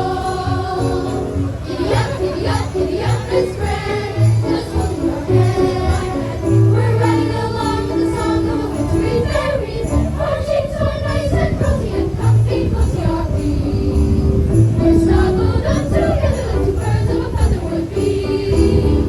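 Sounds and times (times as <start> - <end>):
sleigh bells shaking on the beat: 0.0 - 19.0
youth choir singing: 0.0 - 19.0.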